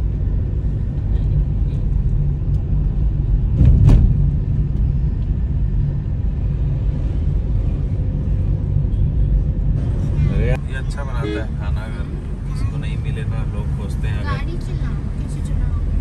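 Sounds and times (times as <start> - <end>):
moving road vehicle rumble: 0.0 - 16.0.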